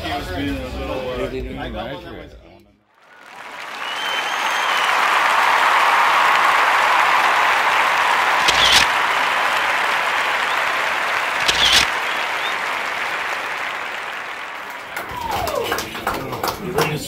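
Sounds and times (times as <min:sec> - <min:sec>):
crowd applauding: 0:03.0 - 0:17.0.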